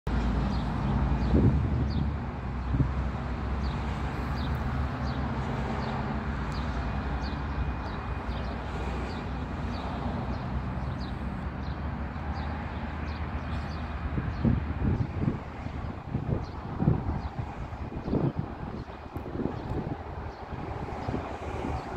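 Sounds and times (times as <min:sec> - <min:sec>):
distant engine drone: 0:00.1 - 0:21.9
traffic rumble: 0:00.1 - 0:21.9.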